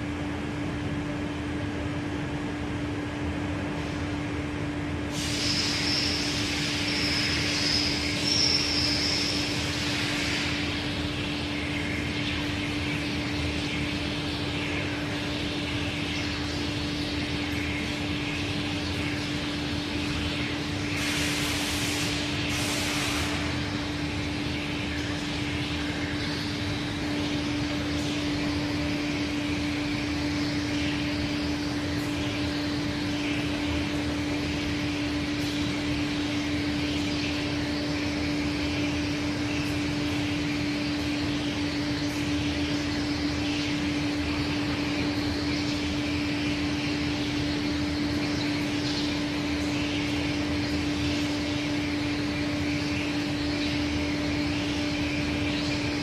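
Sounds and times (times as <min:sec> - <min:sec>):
grinding machine humming and hissing: 0:00.0 - 0:56.0.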